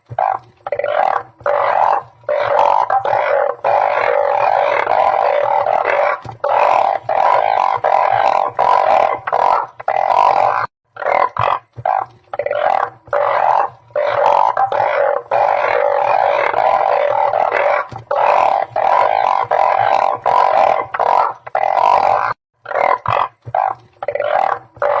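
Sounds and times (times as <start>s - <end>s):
chorus of frogs droning: 0.0s - 25.0s.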